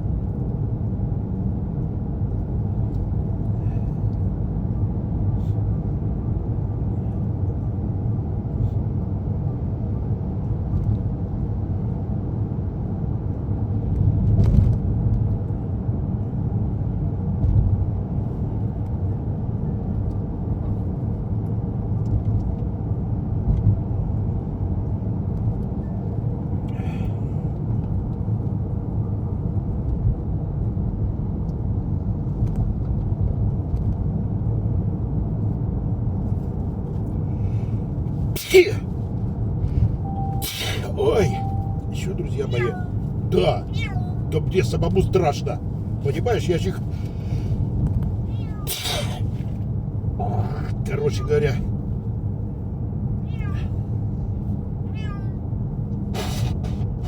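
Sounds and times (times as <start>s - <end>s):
car driving rumble inside cabin: 0.0s - 57.0s.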